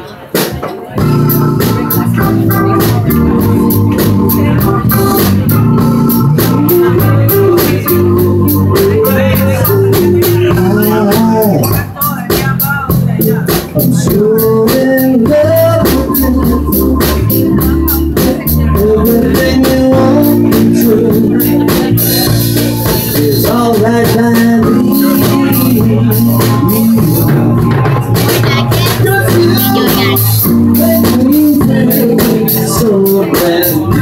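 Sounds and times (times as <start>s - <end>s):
drum machine beat: 0.4s - 34.0s
electronic organ keyboard playing: 0.9s - 34.0s.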